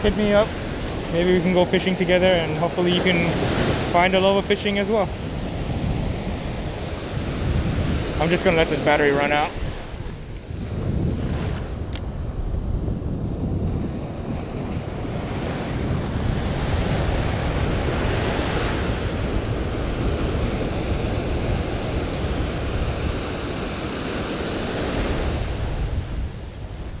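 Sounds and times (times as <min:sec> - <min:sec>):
ocean surf breaking: 0:00.0 - 0:27.0
wind rumbling on microphone: 0:00.0 - 0:27.0.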